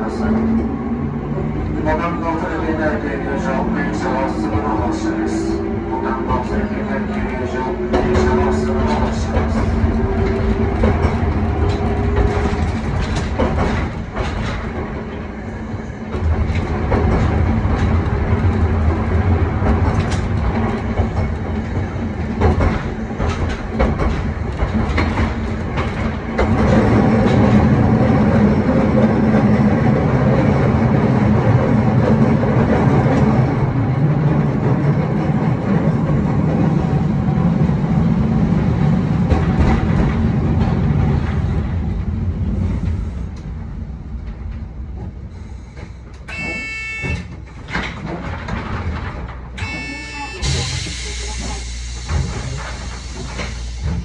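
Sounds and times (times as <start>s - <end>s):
tram motor and gear hum: 0.0s - 54.0s
tram wheels clacking over rail joints: 0.0s - 54.0s.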